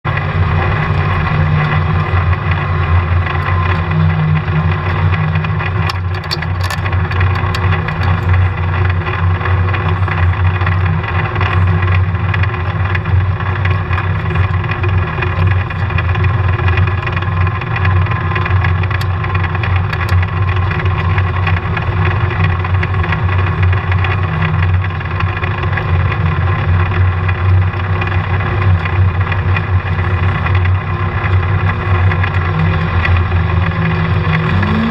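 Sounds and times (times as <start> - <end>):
low engine drone: 0.0 - 34.9.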